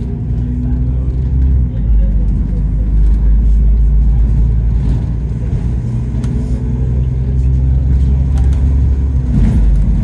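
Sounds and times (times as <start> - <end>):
bus engine running: 0.0 - 10.0
road rumble: 0.0 - 10.0.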